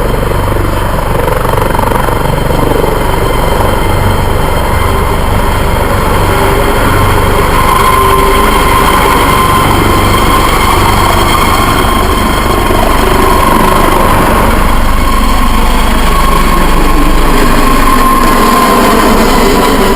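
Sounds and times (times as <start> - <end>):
constant whine: 0.0 - 19.9
helicopter engine and rotor: 0.0 - 19.9.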